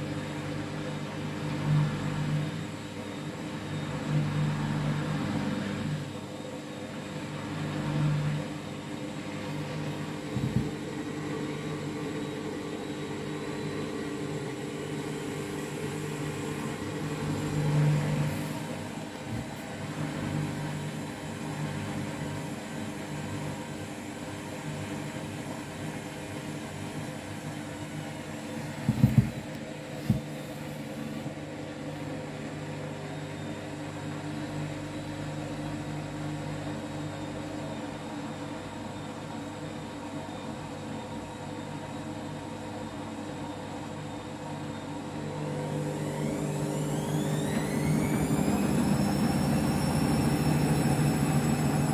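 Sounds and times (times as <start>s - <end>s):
washing machine motor hum: 0.0s - 51.9s
washing machine motor whining: 0.0s - 51.9s.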